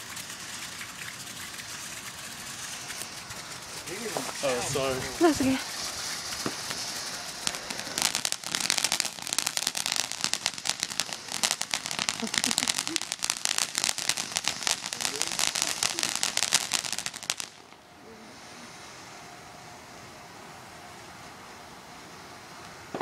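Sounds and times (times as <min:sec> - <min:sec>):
firework crackling and hissing: 0:00.0 - 0:23.0.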